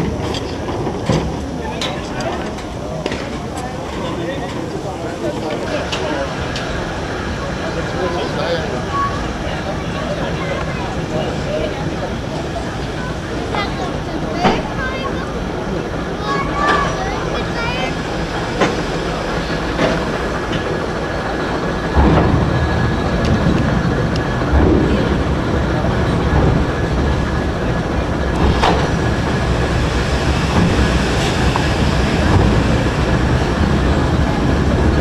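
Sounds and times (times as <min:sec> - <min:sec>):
heavy low rumble: 0:04.5 - 0:35.0
steam hissing: 0:05.1 - 0:35.0.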